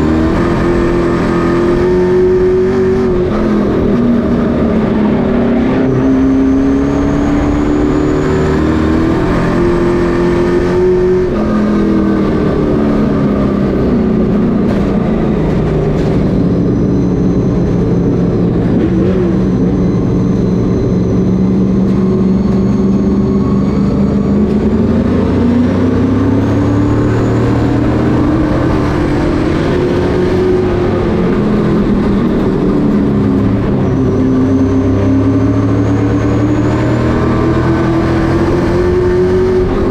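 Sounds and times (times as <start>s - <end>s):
race truck engines running: 0.0s - 39.9s.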